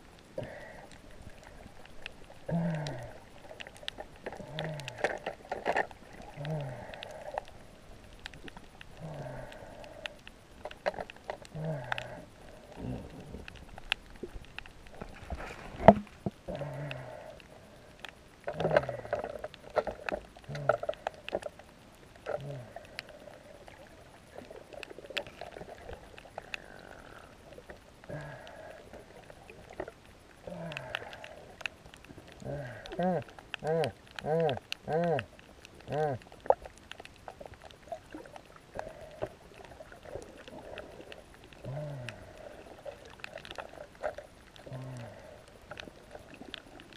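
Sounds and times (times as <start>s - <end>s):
muffled water sloshing and splashing: 0.0s - 46.9s
small clicks: 0.1s - 46.9s.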